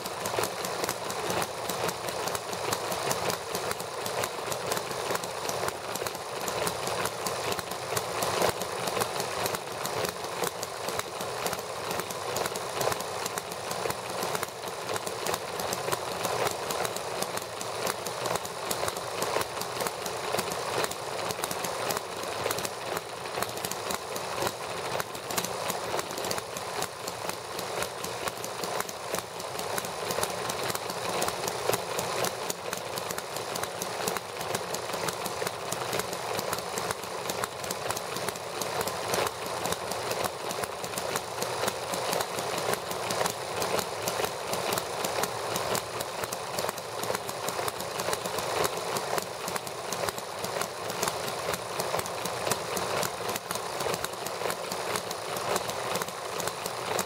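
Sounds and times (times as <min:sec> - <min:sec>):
model engines idling: 0:00.0 - 0:57.0.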